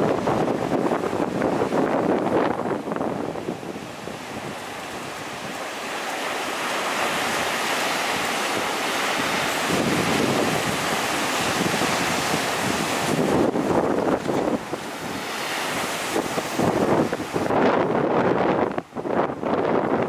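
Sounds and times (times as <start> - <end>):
heavy surf breaking: 0.0 - 20.0
wind buffeting microphone: 0.0 - 20.0.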